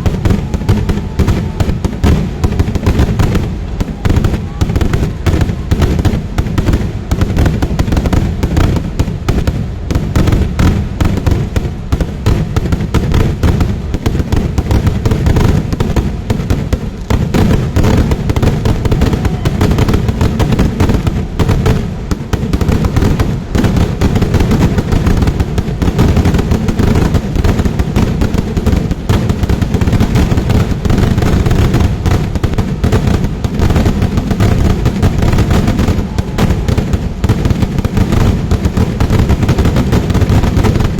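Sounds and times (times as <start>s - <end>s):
fireworks barrage: 0.0s - 40.9s.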